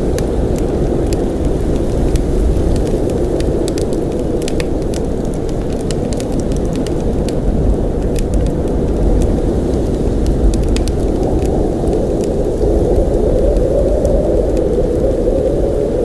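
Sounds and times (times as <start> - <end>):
blizzard wind rushing: 0.0 - 16.0
light ticks: 0.1 - 7.4, 8.0 - 15.2.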